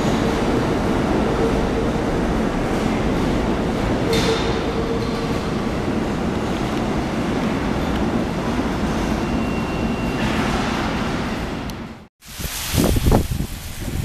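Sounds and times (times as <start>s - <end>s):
subway train wheels rumbling on rails: 0.0s - 14.0s.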